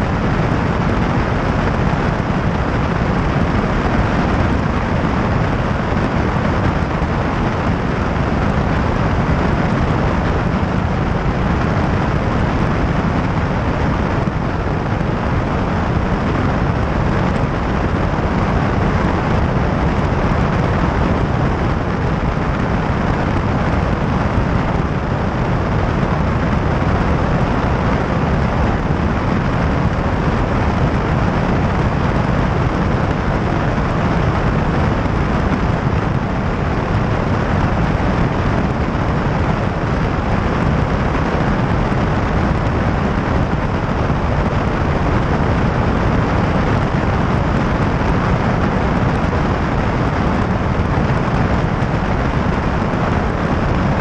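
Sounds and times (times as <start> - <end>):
light airplane engine drone: 0.0 - 54.0.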